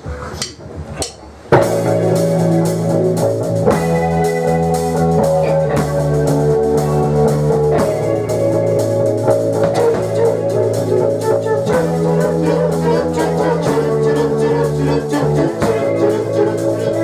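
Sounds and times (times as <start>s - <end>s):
drum kit: 0.0s - 17.0s
strummed guitar chords: 1.5s - 17.0s.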